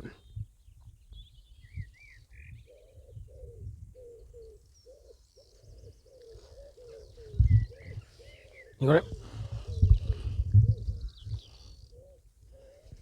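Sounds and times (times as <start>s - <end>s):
faint bird chirps: 0.0s - 13.0s
bird cooing: 1.7s - 13.0s.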